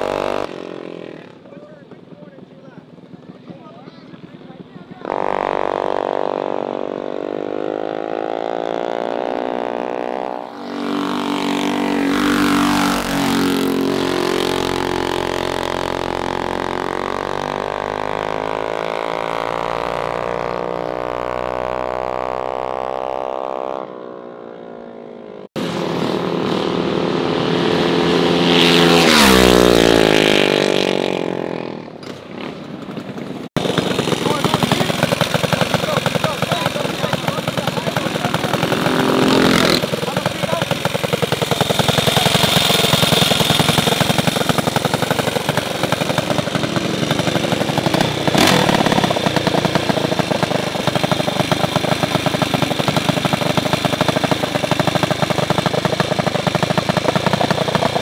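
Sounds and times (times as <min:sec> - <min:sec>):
small engine revving: 0:00.0 - 0:01.4, 0:04.8 - 0:58.0.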